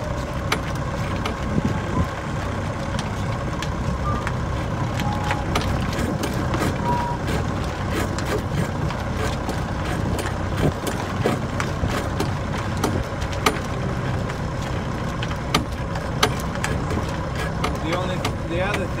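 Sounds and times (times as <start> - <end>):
boat engine running: 0.0 - 19.0
sharp clicks and knocks: 0.2 - 1.8, 2.8 - 19.0.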